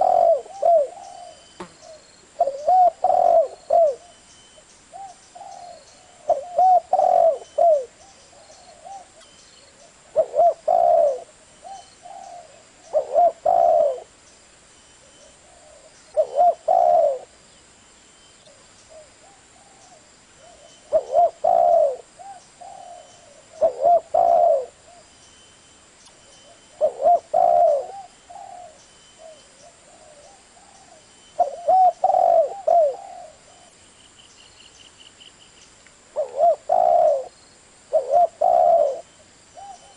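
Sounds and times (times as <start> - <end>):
dove cooing: 0.0 - 4.2, 4.9 - 14.2, 15.0 - 17.4, 18.5 - 25.1, 26.4 - 33.8, 36.1 - 39.9.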